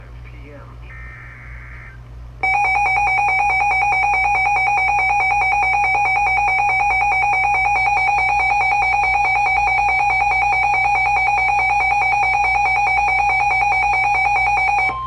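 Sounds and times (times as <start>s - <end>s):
pulsing electronic alert tone: 1.0s - 15.0s.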